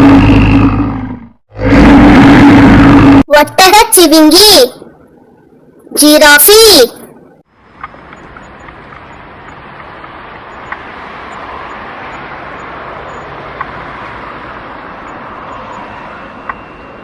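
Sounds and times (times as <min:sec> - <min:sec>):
rushing outdoor ambience: 0:00.0 - 0:17.0.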